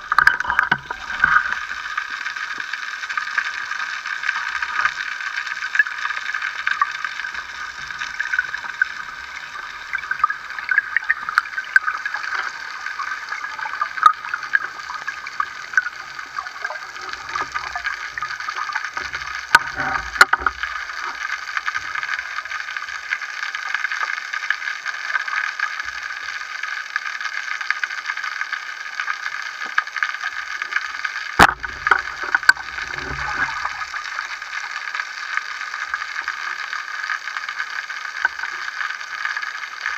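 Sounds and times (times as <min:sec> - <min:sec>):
small clicks and crackles: 0:00.0 - 0:39.9.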